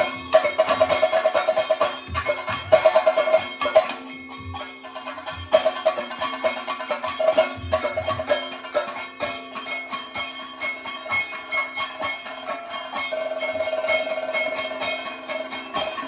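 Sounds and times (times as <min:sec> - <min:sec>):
jingling bell strokes: 0:00.0 - 0:16.0.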